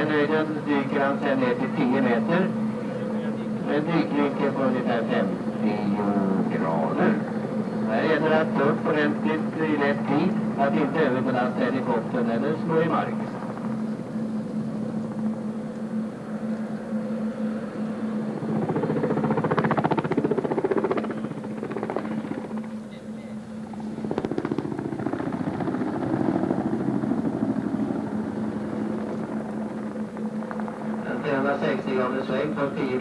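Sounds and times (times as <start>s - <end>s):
helicopter rotor blades chopping: 0.0s - 16.2s, 17.8s - 33.0s.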